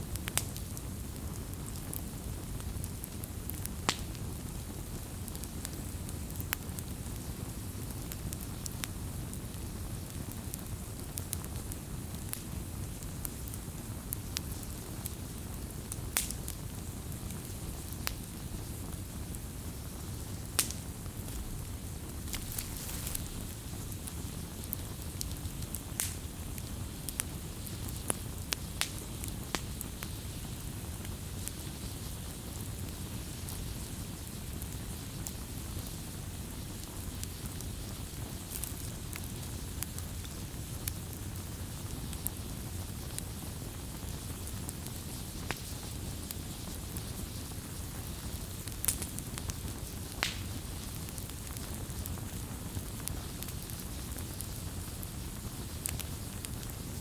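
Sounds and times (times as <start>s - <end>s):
low rumble of flame: 0.0s - 57.0s
wood crackling and popping: 0.2s - 57.0s.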